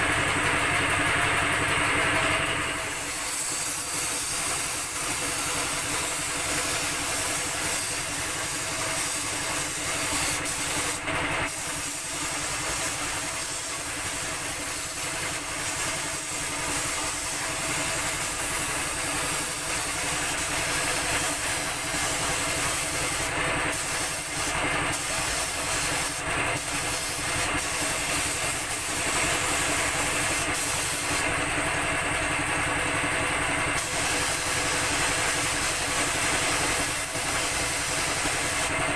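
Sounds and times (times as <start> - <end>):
air compressor humming: 0.0 - 38.9
paint spray gun hissing: 2.2 - 31.7, 33.8 - 38.9.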